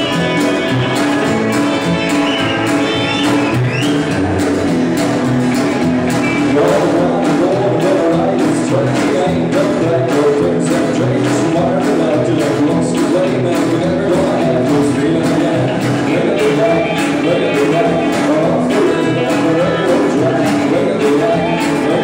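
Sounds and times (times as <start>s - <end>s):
rockabilly band playing live: 0.0s - 22.0s.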